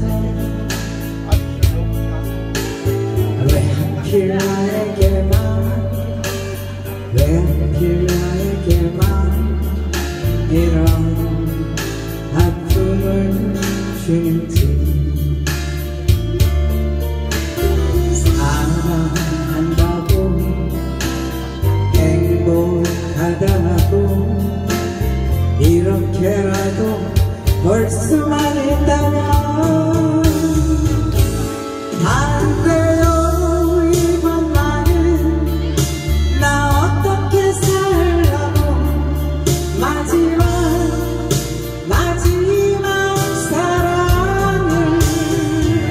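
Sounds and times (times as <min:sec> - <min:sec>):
woman singing into microphone: 0:00.0 - 0:01.7, 0:03.1 - 0:17.1, 0:17.8 - 0:45.9
acoustic guitar: 0:00.0 - 0:45.9
bass and steady beat: 0:00.0 - 0:45.9.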